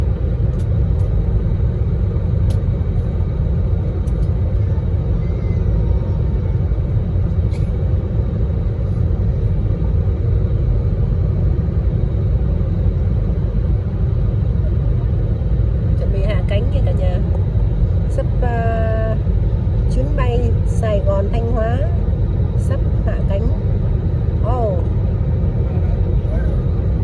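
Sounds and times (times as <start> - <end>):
airliner cabin rumble: 0.0 - 27.0.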